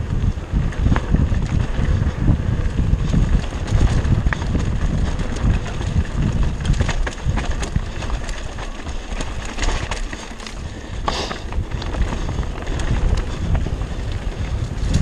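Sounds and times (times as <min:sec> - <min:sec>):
bike rattling over rocks: 0:00.0 - 0:15.0
wind buffeting microphone: 0:00.0 - 0:15.0.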